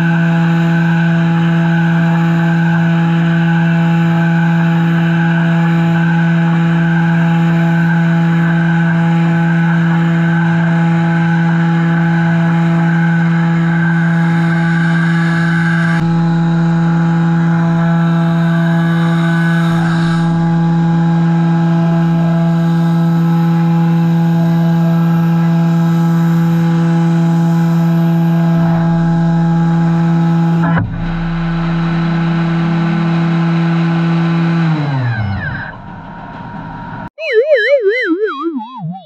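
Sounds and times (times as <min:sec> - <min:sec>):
milling machine spindle hum: 0:00.1 - 0:34.9.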